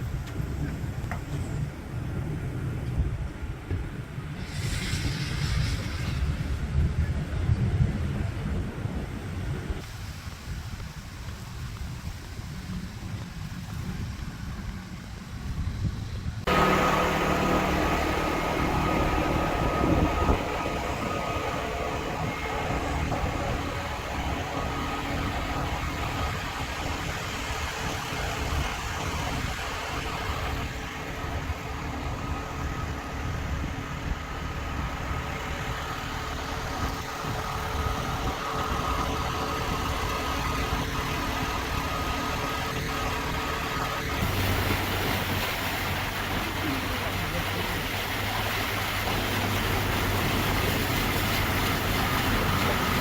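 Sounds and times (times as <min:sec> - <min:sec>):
hurricane wind and heavy rain: 0:00.0 - 0:53.0.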